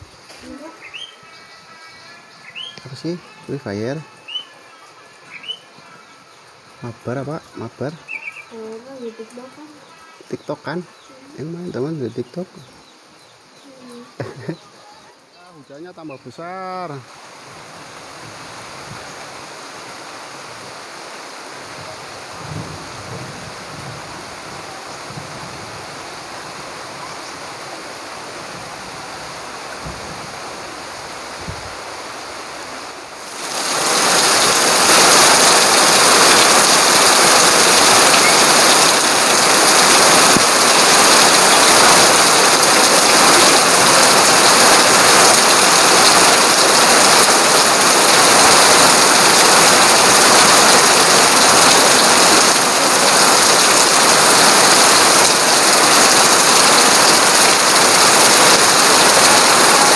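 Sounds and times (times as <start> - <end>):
heavy rain: 0.0 - 59.9
rain pouring off roof edge: 0.0 - 59.9.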